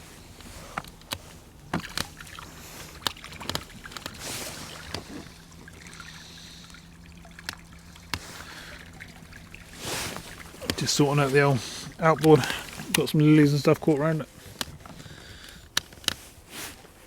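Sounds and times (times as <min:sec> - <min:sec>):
water trickling and sloshing: 0:00.0 - 0:17.0.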